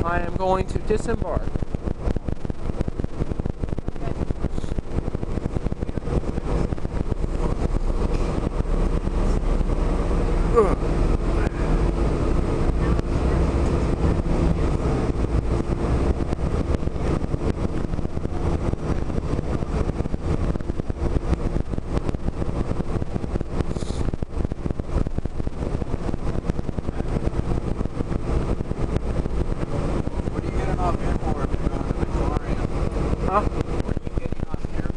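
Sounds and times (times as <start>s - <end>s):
air conditioning running: 0.0s - 34.9s
bus diesel engine rumble: 0.0s - 34.9s
road noise: 0.0s - 34.9s.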